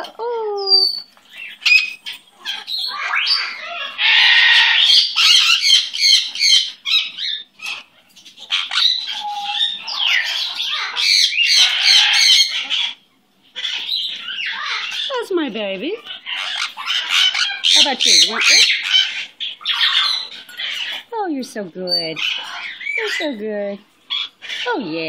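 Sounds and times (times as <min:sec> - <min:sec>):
parrots squawking and chattering: 0:00.0 - 0:25.0.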